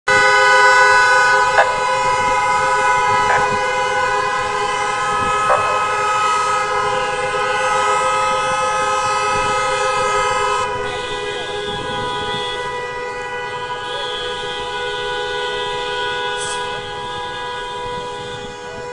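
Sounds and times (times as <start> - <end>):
car horns blaring: 0.0 - 18.9.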